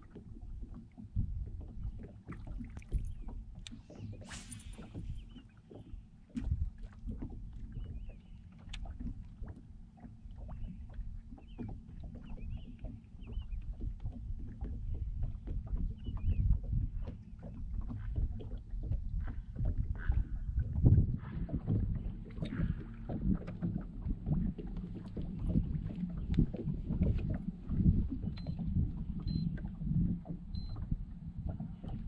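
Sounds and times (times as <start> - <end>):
waves slapping boat hull: 0.0 - 32.0.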